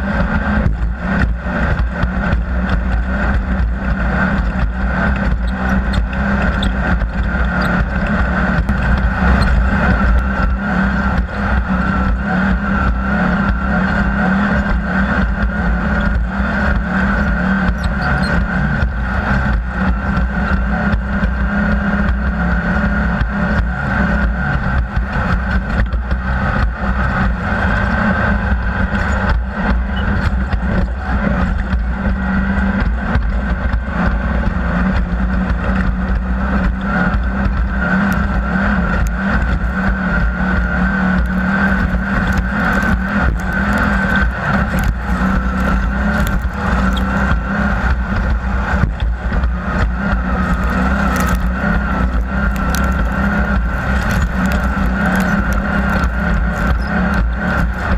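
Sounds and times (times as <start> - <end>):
engine running at high revs: 0.0 - 57.9.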